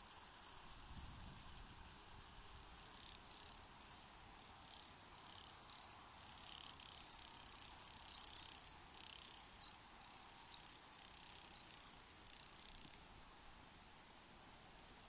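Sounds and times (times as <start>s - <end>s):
faint crickets chirping: 0.0s - 15.0s
steady low hiss: 0.0s - 15.0s.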